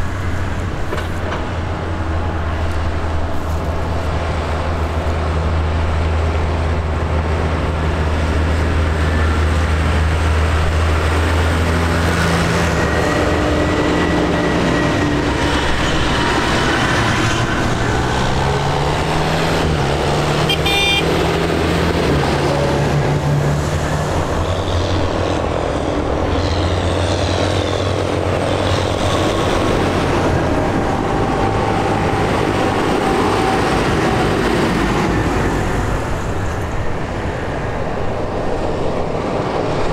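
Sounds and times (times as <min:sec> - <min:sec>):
tractors driving past: 0:00.0 - 0:39.9.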